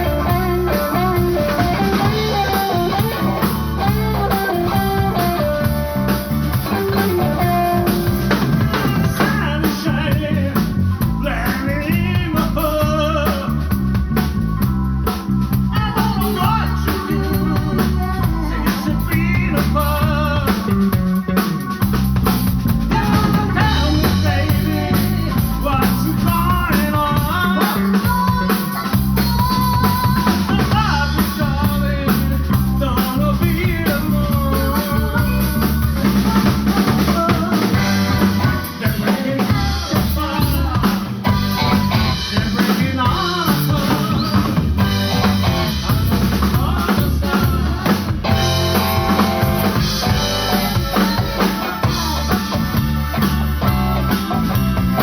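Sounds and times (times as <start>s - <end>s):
bass line: 0.0s - 55.0s
drum kit with snare rimshots: 0.0s - 55.0s.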